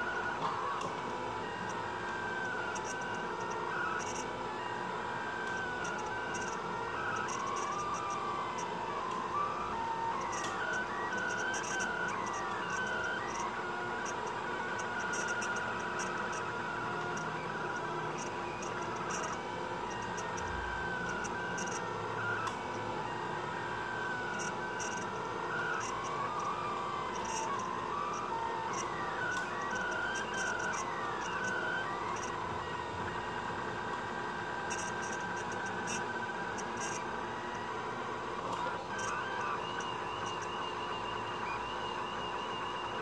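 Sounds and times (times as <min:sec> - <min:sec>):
steady mechanical hum: 0:00.0 - 0:43.0
stepper motors whining: 0:00.0 - 0:43.0.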